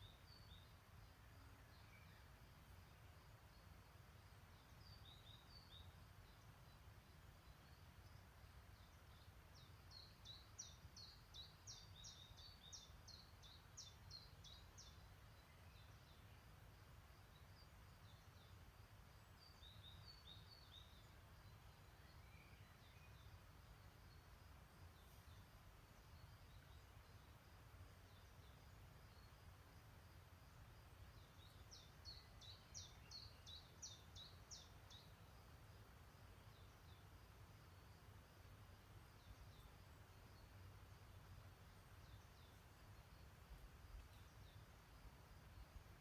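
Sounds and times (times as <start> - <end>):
songbirds calling: 0.0 - 46.0.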